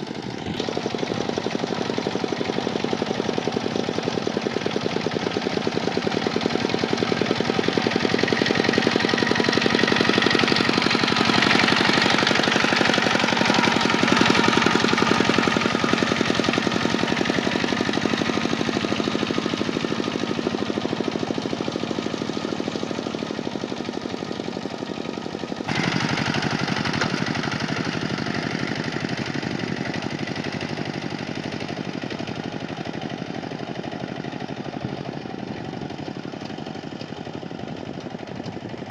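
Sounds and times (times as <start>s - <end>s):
diesel tractor engine clattering: 0.0s - 38.9s.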